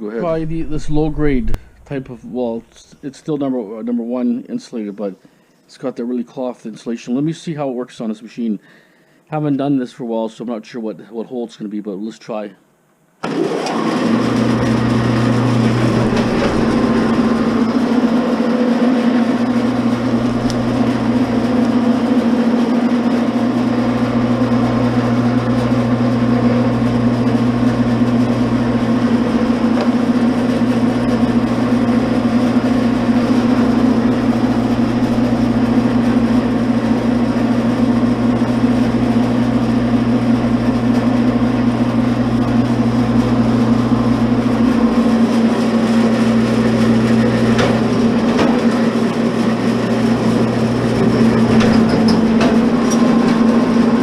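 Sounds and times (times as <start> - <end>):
wire stripper motor humming: 0.0 - 3.0, 13.2 - 54.0.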